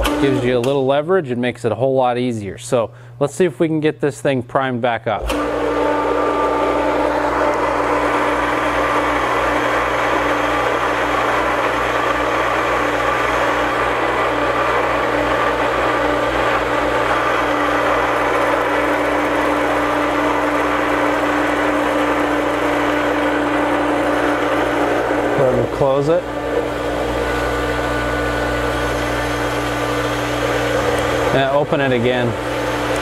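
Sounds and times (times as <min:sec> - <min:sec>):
water pump humming: 0:00.0 - 0:01.0, 0:05.2 - 0:33.0.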